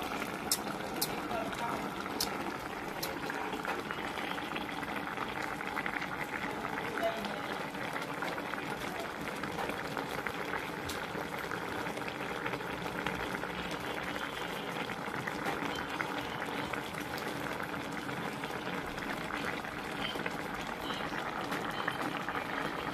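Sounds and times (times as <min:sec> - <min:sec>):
stew boiling in saucepan: 0:00.0 - 0:22.9.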